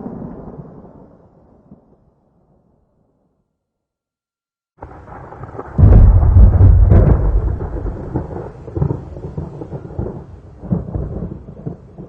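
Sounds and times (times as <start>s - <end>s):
thunder crack and rumble: 0.0s - 2.6s, 4.8s - 12.0s.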